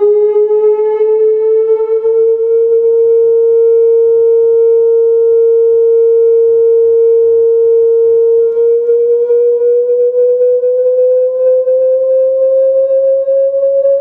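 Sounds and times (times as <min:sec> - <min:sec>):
steady test tone from speakers: 0:00.0 - 0:14.0.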